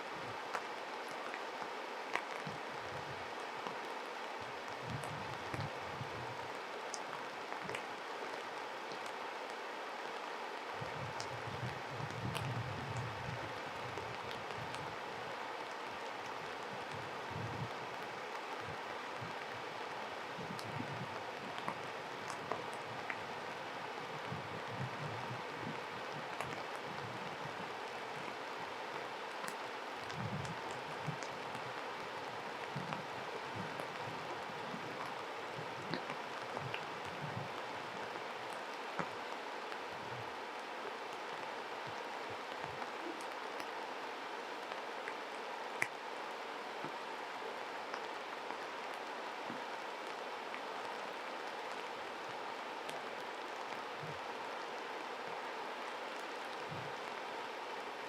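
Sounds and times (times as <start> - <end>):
stream water flowing: 0.0 - 58.0
faint splashing ticks: 10.6 - 57.2.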